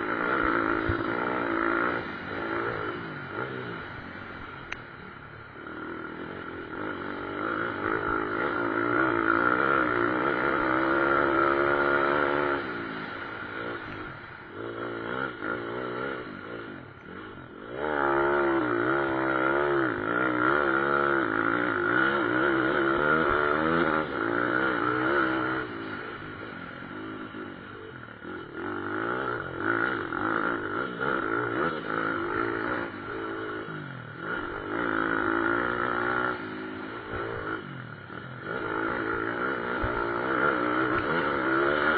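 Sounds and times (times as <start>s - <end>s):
motorcycle engines revving past: 0.0s - 41.9s.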